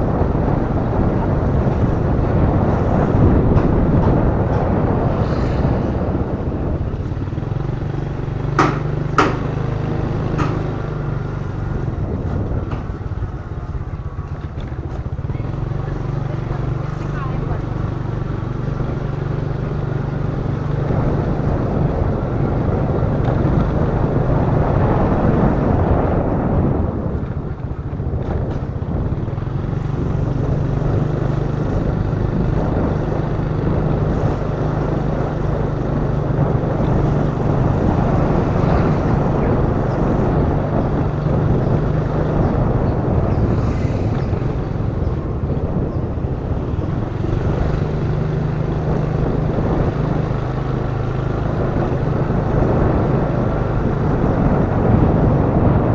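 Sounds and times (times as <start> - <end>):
scooter engine running: 0.0 - 55.9.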